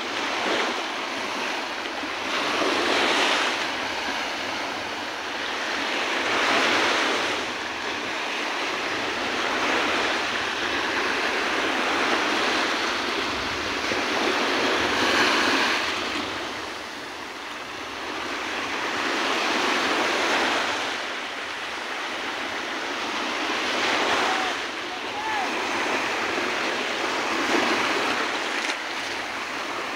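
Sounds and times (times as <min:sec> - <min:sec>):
small waves breaking on sand: 0:00.0 - 0:29.9.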